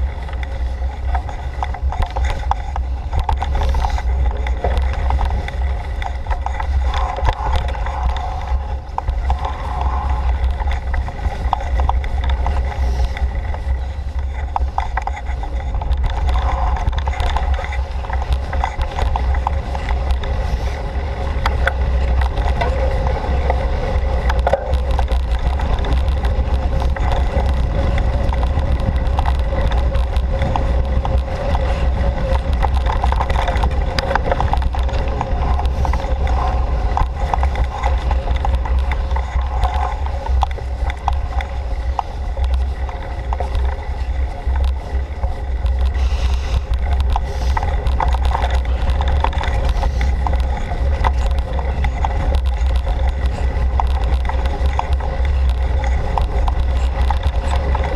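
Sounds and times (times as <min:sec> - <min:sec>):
bicycle rattles and clicks: 0:00.0 - 0:57.9
wind and tyre rumble: 0:00.0 - 0:57.9.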